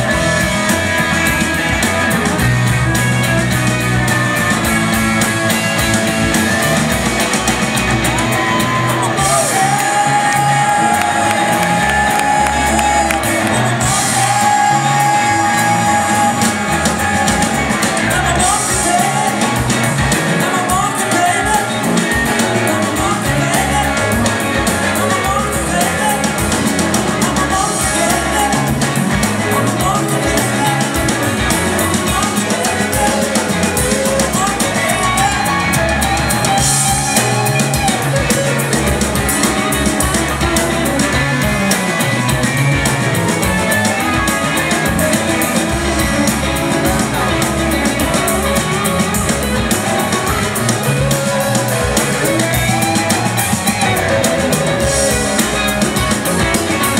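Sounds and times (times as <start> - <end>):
bass guitar: 0.0 - 56.9
drum kit: 0.0 - 56.9
electric guitars: 0.0 - 56.9.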